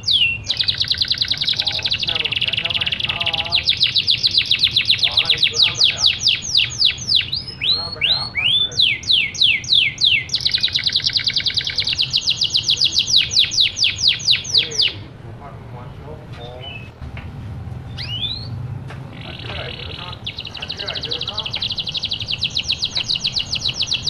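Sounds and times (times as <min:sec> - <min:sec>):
canary singing trills and whistles: 0:00.0 - 0:15.1, 0:16.5 - 0:16.9, 0:17.9 - 0:24.0.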